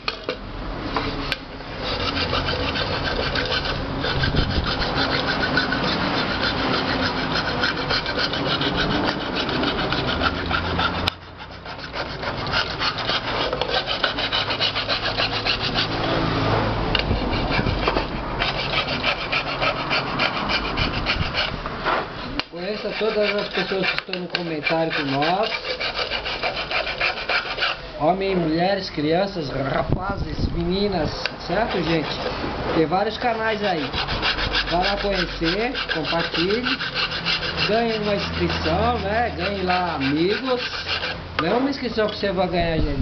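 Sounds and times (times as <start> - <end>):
hand file rasping on metal: 1.8 - 21.6, 22.5 - 27.9, 31.5 - 42.3.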